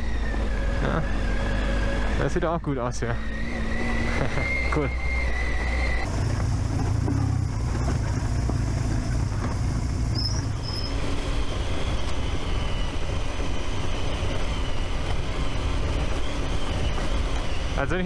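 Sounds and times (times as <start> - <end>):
motorcycle engine drone: 0.0 - 18.0
tyres on gravel: 0.0 - 18.0
wind: 0.0 - 18.0.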